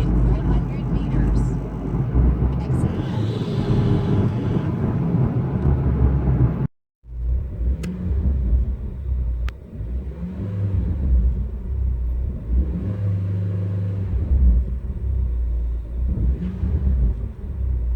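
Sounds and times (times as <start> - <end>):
turbocharged car engine running: 0.0 - 17.9.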